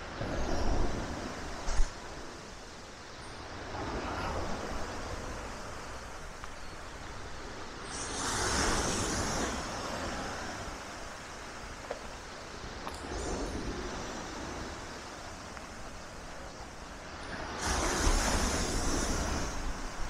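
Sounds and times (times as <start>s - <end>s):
waves breaking on shore: 0.0s - 20.0s.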